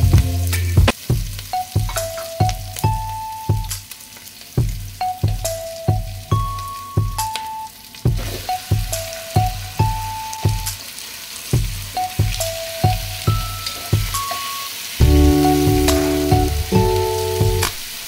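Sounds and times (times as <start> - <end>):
background music with beat: 0.0 - 10.8, 11.6 - 17.8
onions frying in oil: 0.0 - 18.0.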